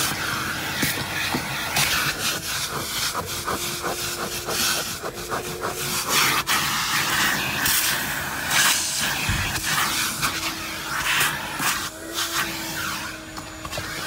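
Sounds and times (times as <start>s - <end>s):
nozzle scraping carpet: 0.0s - 14.0s
vacuum cleaner running: 0.0s - 14.0s.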